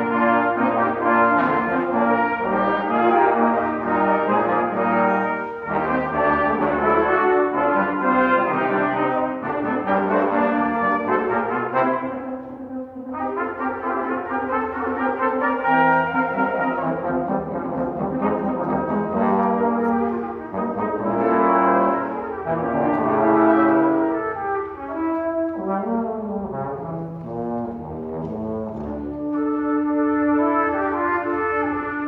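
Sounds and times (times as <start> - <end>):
brass quintet playing: 0.0 - 32.0.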